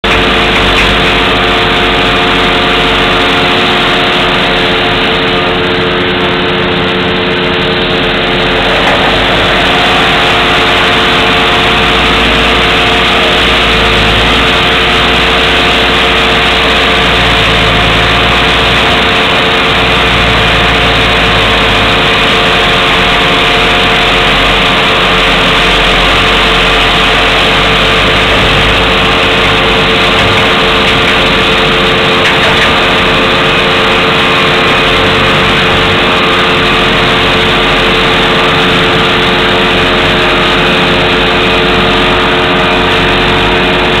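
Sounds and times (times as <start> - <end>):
grinding mill machine noise: 0.0 - 44.0
tractor engine rumble: 0.0 - 44.0.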